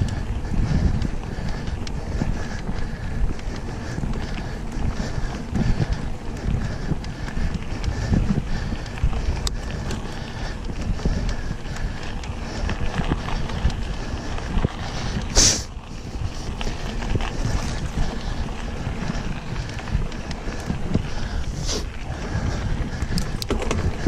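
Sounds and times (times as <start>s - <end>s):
bike rumbling on dirt trail: 0.0s - 24.0s
wind buffeting microphone: 0.0s - 24.0s.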